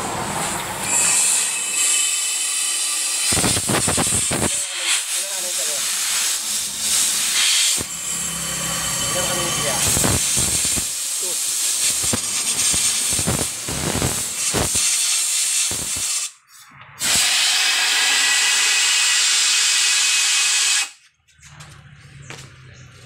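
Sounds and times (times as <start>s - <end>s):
air blow gun hissing: 0.3s - 16.4s, 17.0s - 21.0s.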